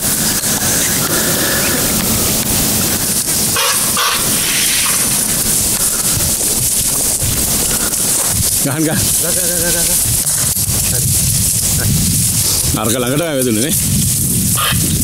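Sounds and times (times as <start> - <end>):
short hissy sounds: 0.0 - 12.7
wind buffeting microphone: 0.0 - 15.0.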